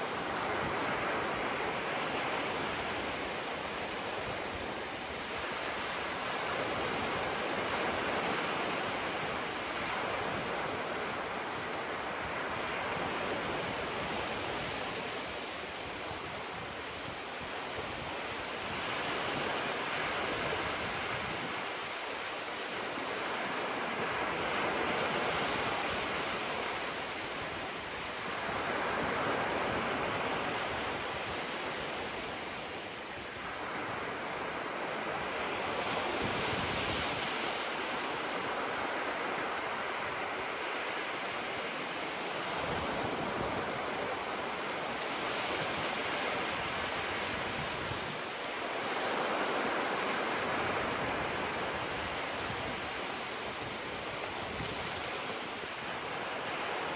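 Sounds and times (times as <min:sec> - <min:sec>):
small waves washing on shore: 0:00.0 - 0:56.9.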